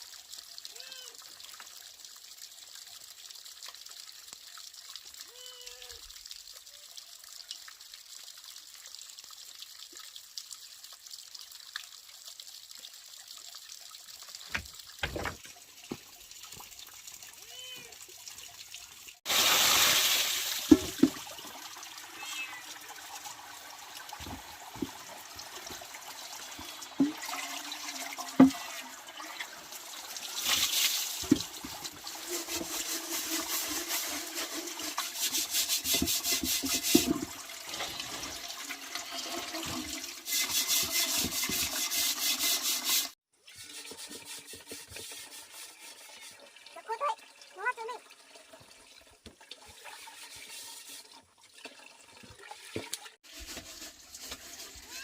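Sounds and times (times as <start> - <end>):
water pouring and splashing: 0.0 - 55.0.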